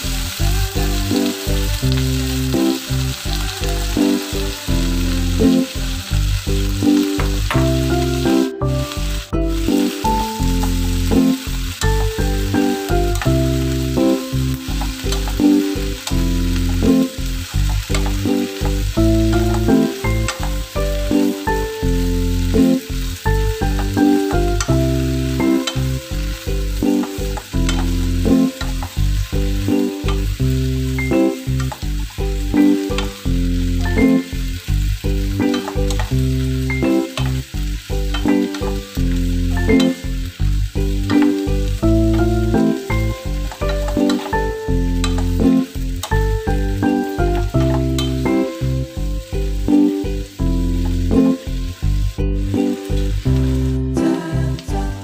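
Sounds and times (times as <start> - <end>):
cabbage sizzling in wok: 0.0 - 55.0.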